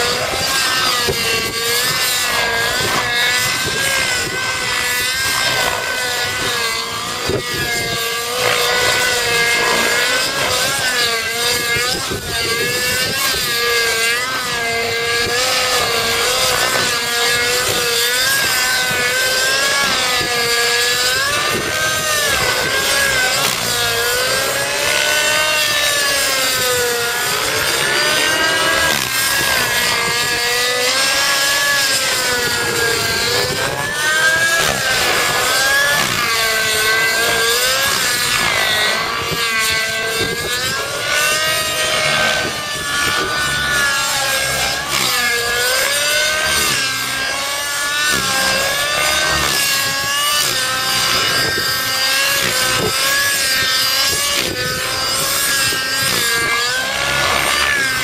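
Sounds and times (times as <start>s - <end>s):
rc helicopter rotor whine: 0.0s - 58.0s.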